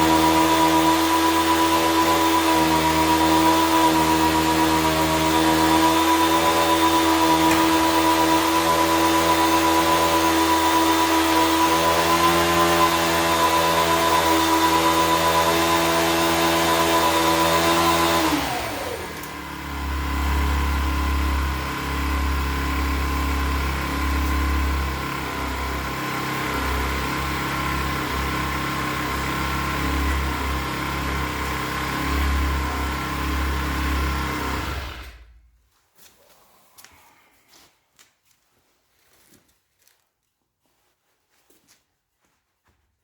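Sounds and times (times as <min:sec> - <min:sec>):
model bulldozer engine revving: 0:00.0 - 0:35.5.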